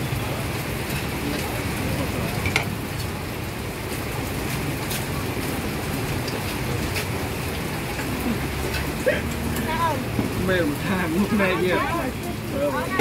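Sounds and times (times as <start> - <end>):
heavy rain pouring: 0.0 - 13.0
raindrops ticking: 0.0 - 13.0.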